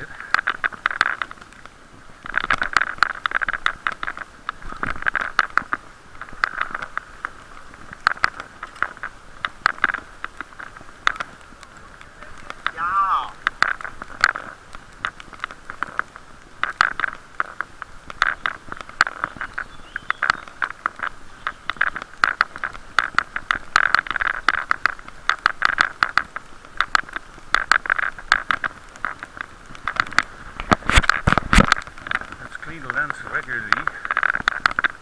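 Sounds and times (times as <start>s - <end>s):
bicycle ride noise hiss: 0.0s - 35.0s
muffled clicks and taps: 0.0s - 35.0s.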